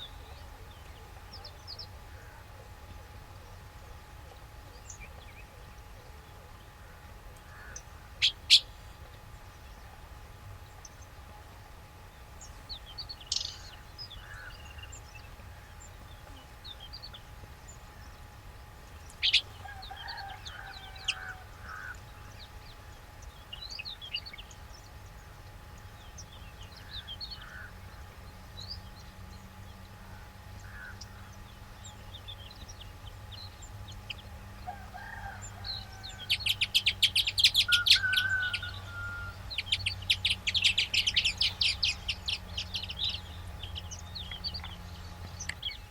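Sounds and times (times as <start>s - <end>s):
birds chirping: 0.0s - 45.9s
steady low hum: 0.0s - 45.9s.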